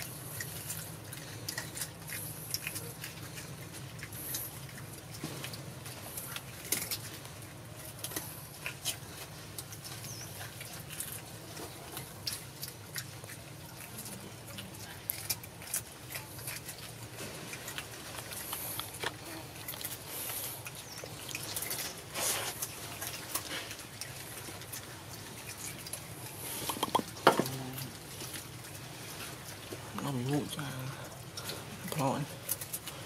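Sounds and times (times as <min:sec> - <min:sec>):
low steady hum: 0:00.0 - 0:33.0
monkeys chewing: 0:00.0 - 0:33.0
rustling: 0:00.0 - 0:33.0.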